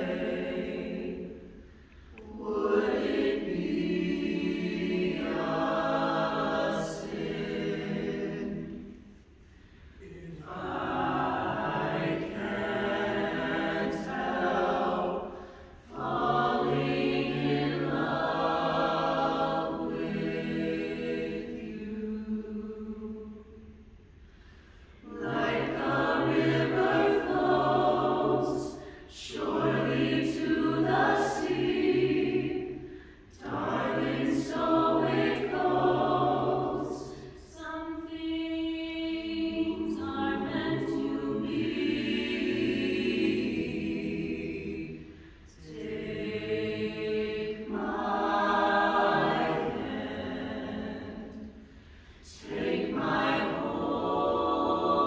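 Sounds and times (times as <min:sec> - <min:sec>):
mixed-voice choir singing: 0:00.0 - 0:55.0.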